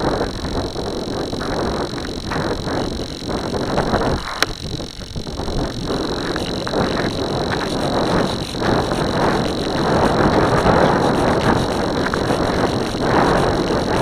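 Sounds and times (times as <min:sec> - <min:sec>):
steady high whine: 0:00.0 - 0:14.0
wind buffeting camera: 0:00.0 - 0:14.0.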